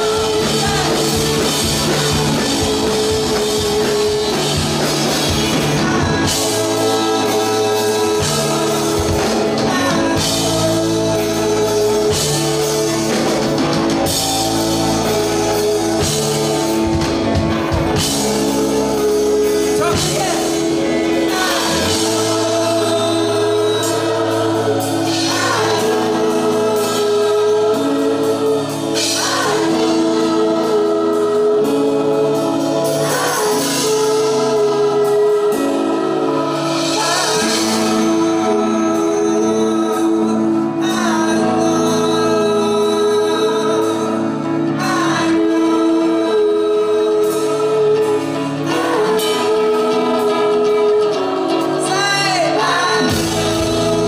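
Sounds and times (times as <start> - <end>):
drum kit: 0.0 - 54.0
person singing: 0.0 - 54.0
sustained guitar chords: 0.0 - 54.0.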